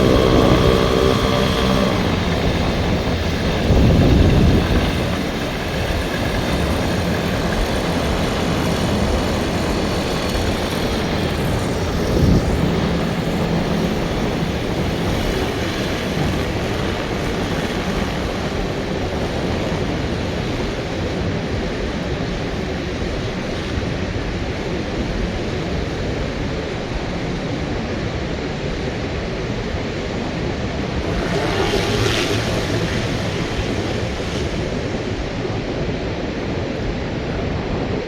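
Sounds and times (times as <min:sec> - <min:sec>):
small plane engine droning: 0:00.0 - 0:38.0
wind noise on microphone: 0:00.0 - 0:38.0.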